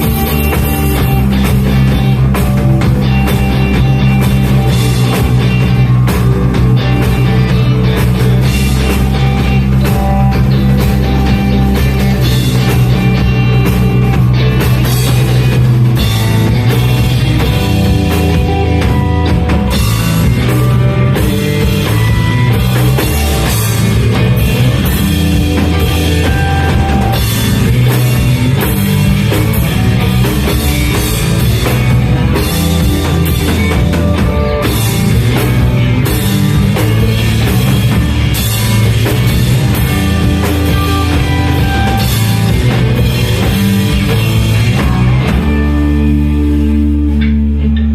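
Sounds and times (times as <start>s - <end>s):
drum kit: 0.0s - 47.9s
guitar: 0.0s - 47.9s.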